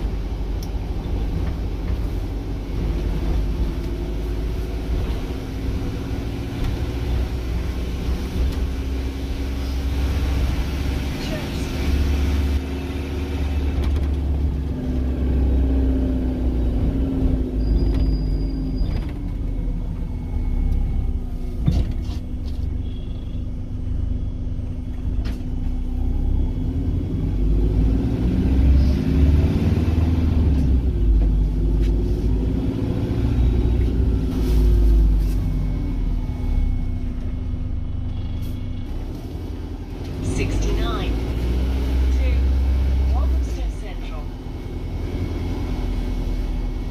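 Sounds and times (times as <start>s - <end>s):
bus engine and road rumble: 0.0s - 46.9s.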